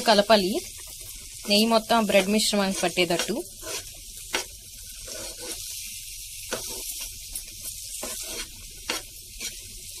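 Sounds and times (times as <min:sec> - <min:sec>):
mixture sizzling in a pan: 0:00.0 - 0:10.0
steel spoon scraping pan: 0:00.7 - 0:10.0.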